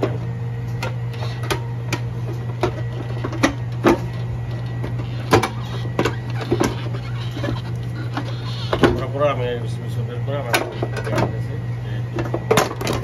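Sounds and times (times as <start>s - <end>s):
electric motor humming: 0.7s - 12.2s.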